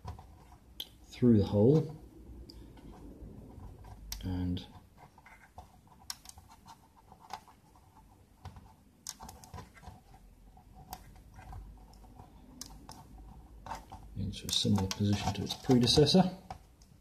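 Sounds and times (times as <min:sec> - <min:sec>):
faint small clicks and scratches: 0:00.0 - 0:01.0, 0:01.7 - 0:17.0.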